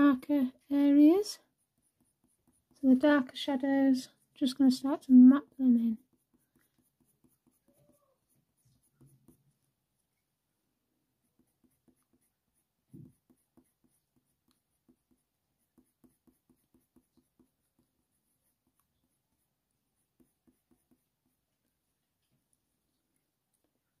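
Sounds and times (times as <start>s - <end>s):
pencil scratching on paper: 0.8s - 10.1s, 11.2s - 21.8s.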